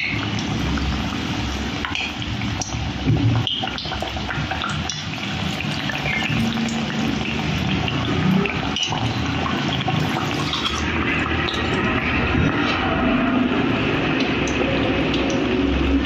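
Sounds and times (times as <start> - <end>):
food sizzling in hot oil: 0.0 - 15.7.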